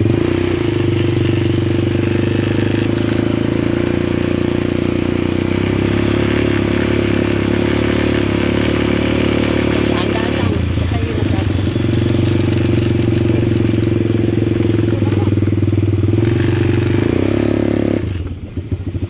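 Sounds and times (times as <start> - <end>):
atv engine running steadily: 0.0 - 19.0.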